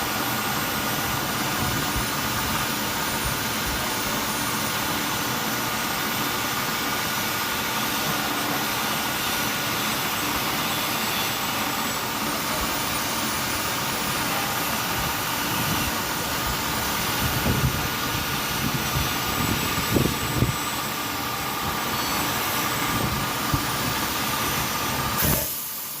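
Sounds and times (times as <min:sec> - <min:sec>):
milling machine spindle whine: 0:00.0 - 0:26.0.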